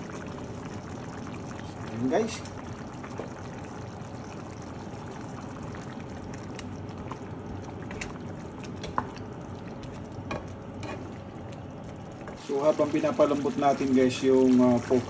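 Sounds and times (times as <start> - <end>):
stew bubbling in a pan: 0.0 - 15.0.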